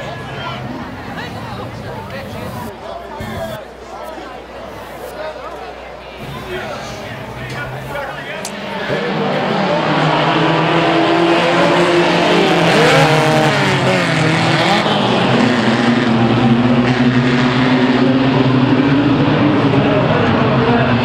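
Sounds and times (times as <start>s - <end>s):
race car engines passing: 0.0s - 3.6s, 6.2s - 21.0s.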